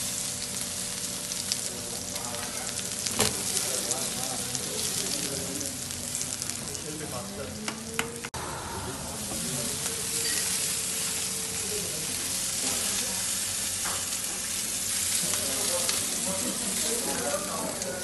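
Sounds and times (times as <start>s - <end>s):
food sizzling in oil: 0.0s - 7.9s, 9.0s - 18.0s.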